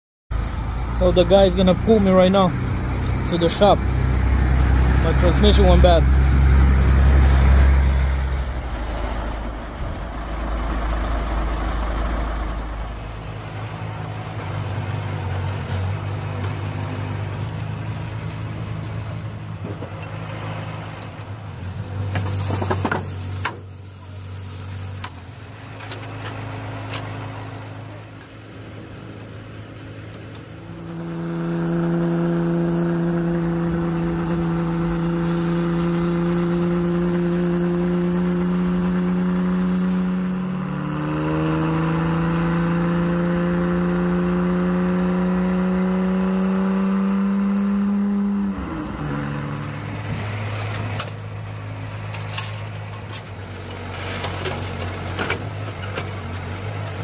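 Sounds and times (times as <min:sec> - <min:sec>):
heavy truck engines running: 0:00.3 - 0:45.5, 0:46.1 - 0:57.0
drone inside truck cab: 0:00.3 - 0:57.0.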